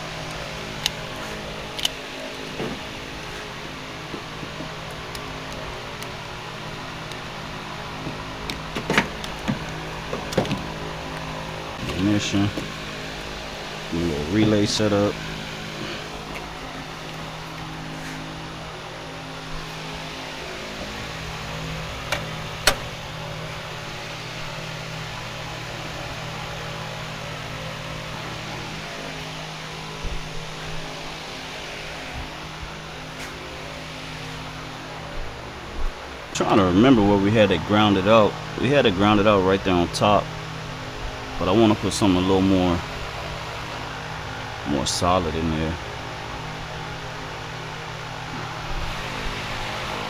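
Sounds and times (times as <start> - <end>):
fan humming: 0.0 - 50.0.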